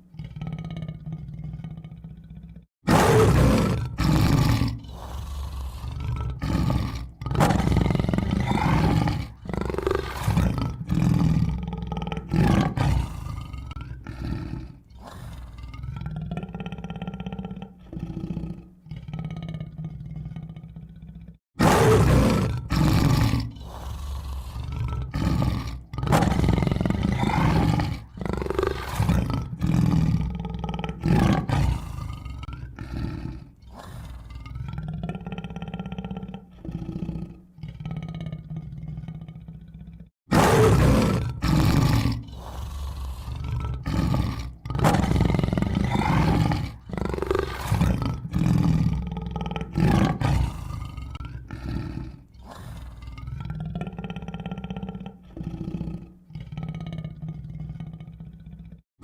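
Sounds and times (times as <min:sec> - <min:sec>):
tiger roaring and growling: 0:00.0 - 0:58.8.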